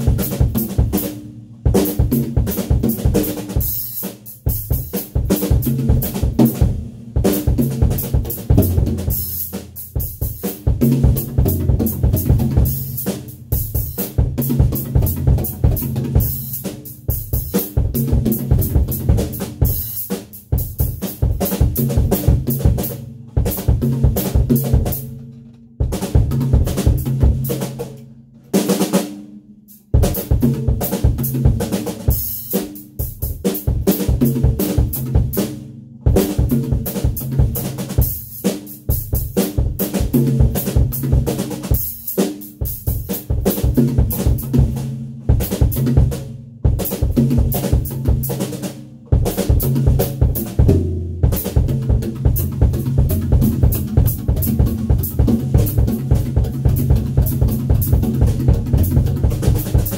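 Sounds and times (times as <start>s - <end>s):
drum kit playing: 0.0s - 59.9s.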